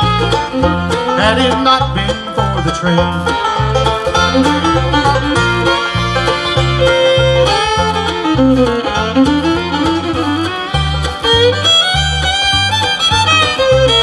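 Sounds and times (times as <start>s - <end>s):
bass notes: 0.0s - 14.0s
fiddle melody: 0.0s - 14.0s
guitar: 0.0s - 14.0s.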